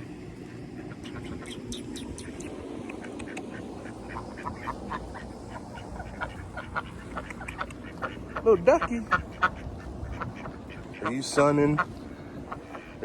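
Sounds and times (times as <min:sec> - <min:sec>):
ducks quacking: 0:00.2 - 0:13.0.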